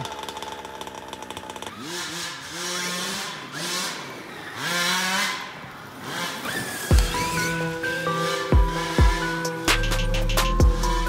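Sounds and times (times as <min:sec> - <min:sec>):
rc car motor buzzing and revving: 0:00.0 - 0:11.0.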